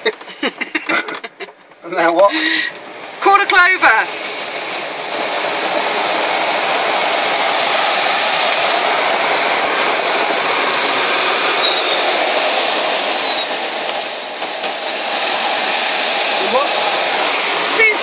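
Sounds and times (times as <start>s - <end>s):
air rushing over glider canopy: 2.8s - 18.0s.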